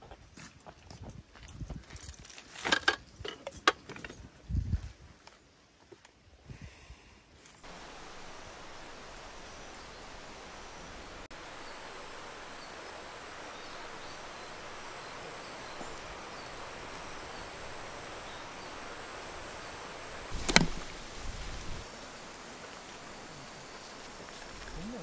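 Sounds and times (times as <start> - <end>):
outdoor background hiss: 1.9 - 25.0.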